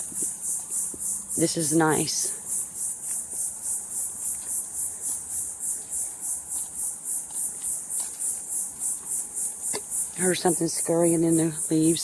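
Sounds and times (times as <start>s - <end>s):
insects pulsing chorus: 0.0s - 12.0s.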